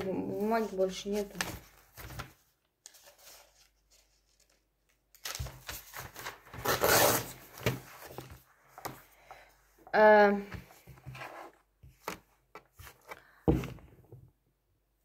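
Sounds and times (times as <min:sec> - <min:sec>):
book pages rustling: 0:00.0 - 0:09.2, 0:10.4 - 0:13.8.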